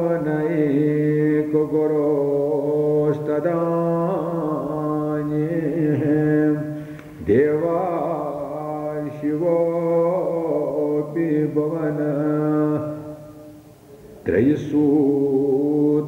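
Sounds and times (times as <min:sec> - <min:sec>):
man chanting: 0:00.0 - 0:13.6, 0:14.2 - 0:16.0.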